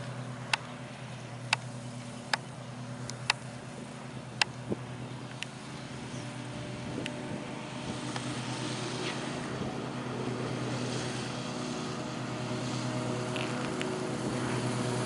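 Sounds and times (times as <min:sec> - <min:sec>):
model airplane motor drone: 0:00.0 - 0:15.0.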